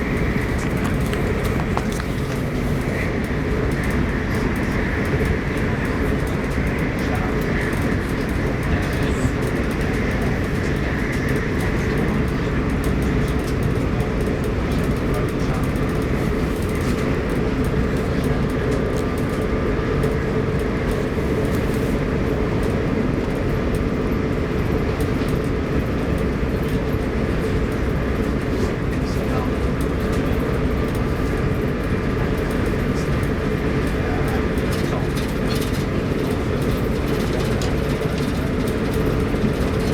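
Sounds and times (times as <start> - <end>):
electric train cabin rumble: 0.0 - 39.9.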